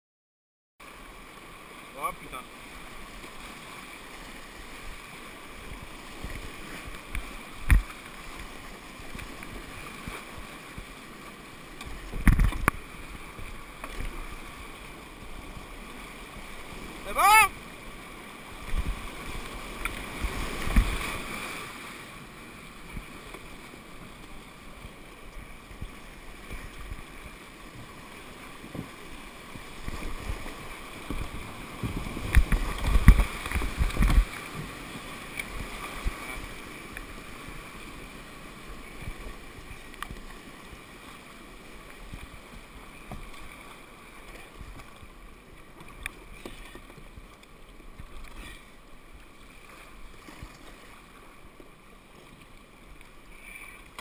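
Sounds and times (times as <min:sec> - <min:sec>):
water splashing against boat: 0:00.8 - 0:54.0
whitewater rapids rushing: 0:01.0 - 0:45.6.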